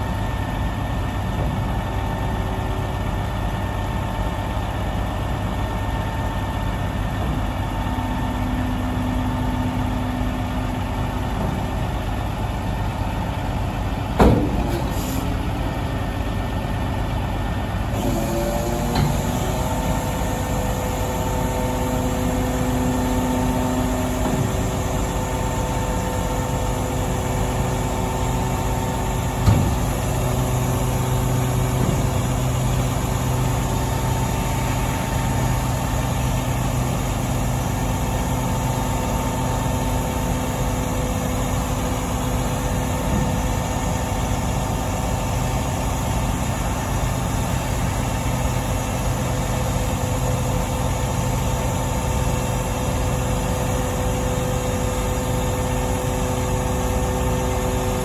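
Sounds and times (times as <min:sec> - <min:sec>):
diesel truck idling: 0:00.0 - 0:58.0.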